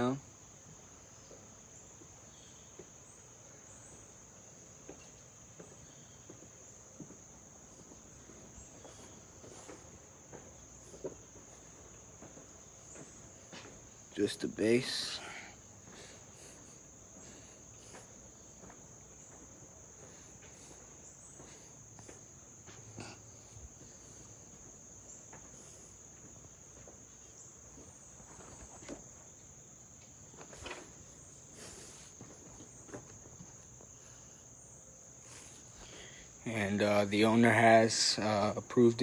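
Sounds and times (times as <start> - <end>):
crickets trilling: 0.0 - 39.0.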